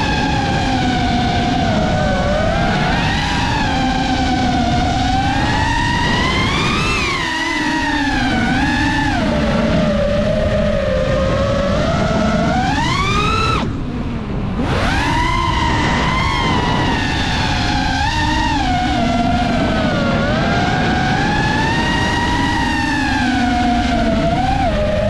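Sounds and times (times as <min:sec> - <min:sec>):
drone motors and props whining: 0:00.0 - 0:25.0.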